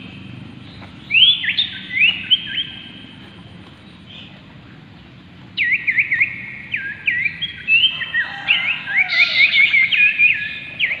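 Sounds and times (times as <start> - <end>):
bird singing whistled notes: 0.0 - 4.4, 5.5 - 11.0.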